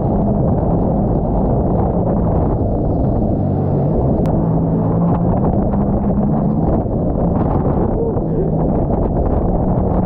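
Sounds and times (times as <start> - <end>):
jet ski engine running: 0.0 - 10.0
water rushing and spraying: 0.0 - 10.0.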